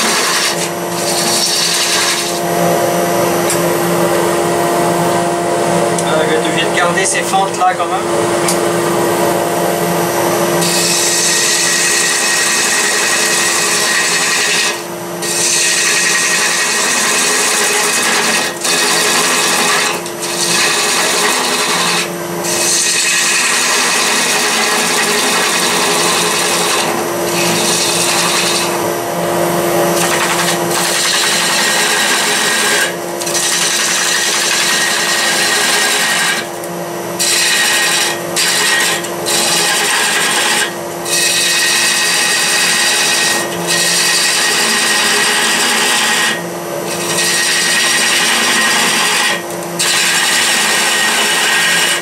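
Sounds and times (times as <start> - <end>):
turning tool scraping wood: 0.0 - 2.8, 10.6 - 29.0, 29.9 - 36.6, 37.2 - 52.0
lathe motor hum: 0.0 - 52.0.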